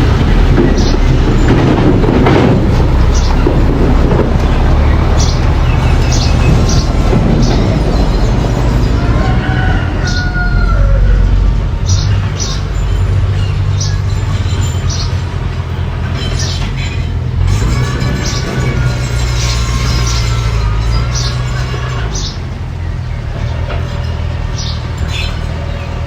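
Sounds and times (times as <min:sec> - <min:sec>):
metallic track clanks: 0:00.0 - 0:10.6, 0:11.2 - 0:26.0
bulldozer engine running: 0:00.0 - 0:26.0
tracks squealing: 0:00.0 - 0:26.0.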